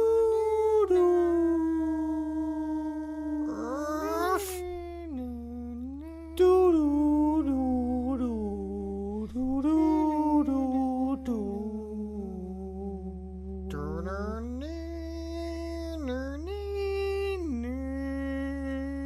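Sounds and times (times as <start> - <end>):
person humming a slow melody: 0.0 - 19.0.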